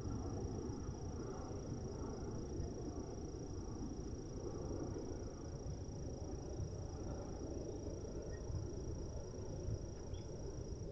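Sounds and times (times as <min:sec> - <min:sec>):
low outdoor background noise: 0:00.0 - 0:10.9.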